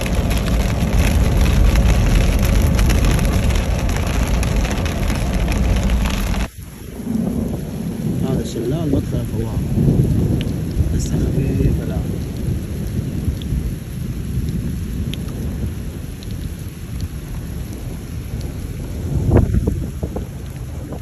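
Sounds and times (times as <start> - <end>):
heavy rain: 0.0 - 21.0
raindrops ticking: 0.0 - 21.0
rolling thunder rumble: 0.0 - 21.0.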